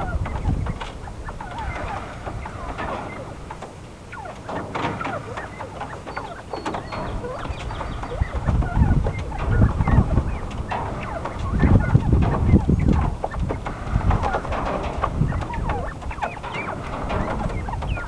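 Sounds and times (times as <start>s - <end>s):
low thumps: 0.0s - 18.0s
quail chirping and clucking: 0.0s - 18.0s.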